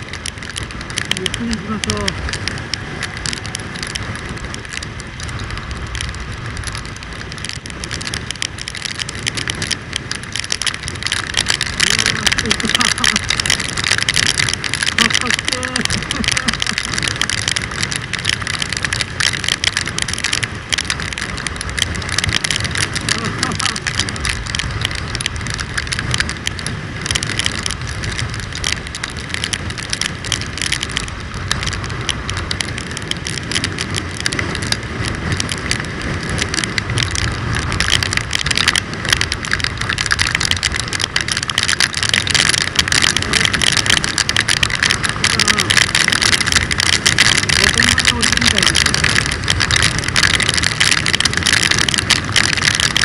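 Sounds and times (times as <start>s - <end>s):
rain spattering on microphone: 0.0s - 53.0s
wind and road noise: 0.0s - 53.0s.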